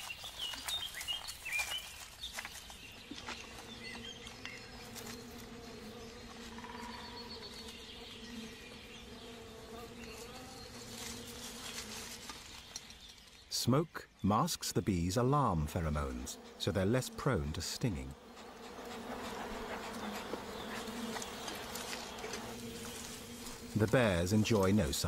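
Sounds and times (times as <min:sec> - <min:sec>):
bees buzzing around hive: 0:02.6 - 0:12.7, 0:14.6 - 0:25.0.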